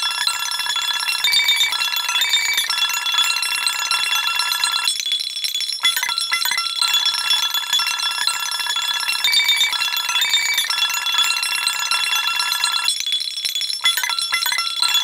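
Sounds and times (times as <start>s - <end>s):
bell-like background music: 0.0s - 15.0s.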